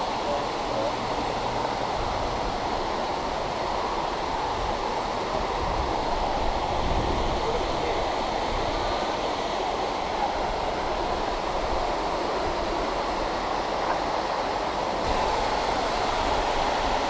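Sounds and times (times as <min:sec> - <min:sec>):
waterfall rushing into pool: 0:00.0 - 0:17.0.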